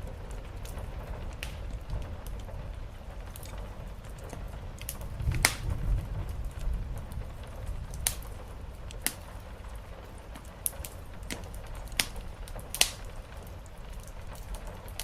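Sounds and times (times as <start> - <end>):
fire popping: 0.0 - 15.0
rain hissing: 0.0 - 15.0
wood fire crackling: 0.0 - 15.0.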